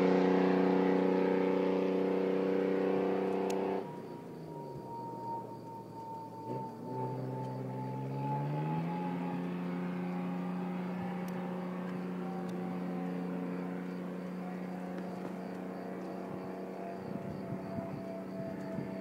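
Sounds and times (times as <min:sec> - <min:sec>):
car exhaust engine revving: 0:00.0 - 0:19.0.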